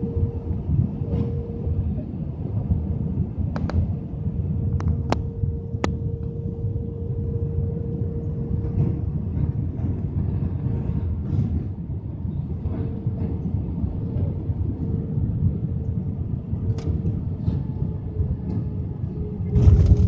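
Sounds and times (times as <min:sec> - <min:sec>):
constant hum: 0:00.0 - 0:20.0
jet engine rumble: 0:00.0 - 0:20.0.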